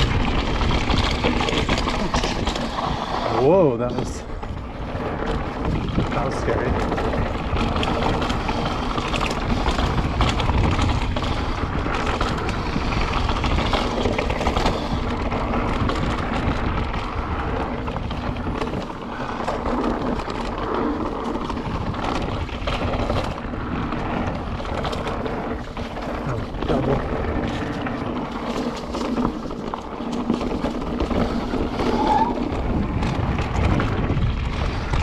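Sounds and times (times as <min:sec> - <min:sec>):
bike clattering over bumps: 0:00.0 - 0:35.0
bike tyres on dirt: 0:00.0 - 0:35.0
wind rushing over microphone: 0:00.0 - 0:35.0.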